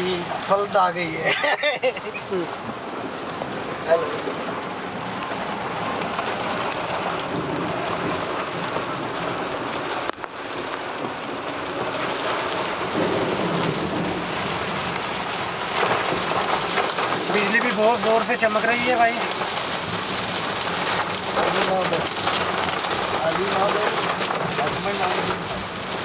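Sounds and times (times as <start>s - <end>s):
heavy rain on car: 0.0s - 26.0s.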